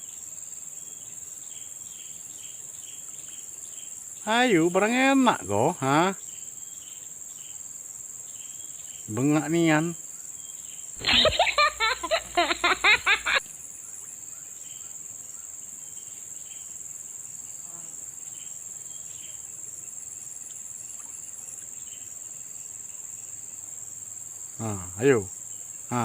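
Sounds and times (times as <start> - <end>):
crickets and insects chirping: 0.0 - 26.0.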